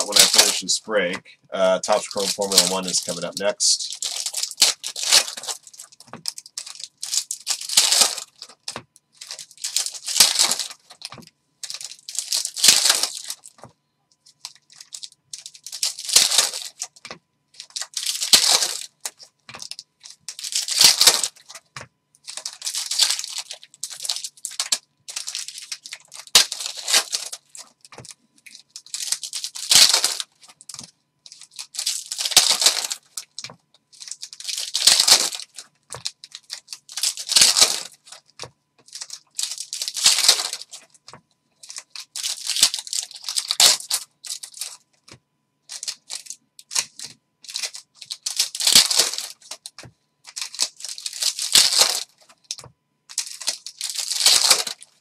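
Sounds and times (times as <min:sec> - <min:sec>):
foil wrappers tearing and crinkling: 0:00.0 - 0:13.7, 0:14.3 - 0:44.8, 0:45.7 - 0:55.0.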